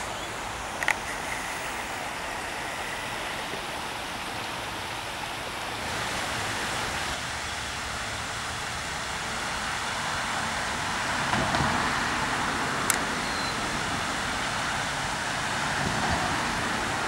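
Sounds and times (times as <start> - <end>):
outdoor ambient rushing noise: 0.0 - 17.0.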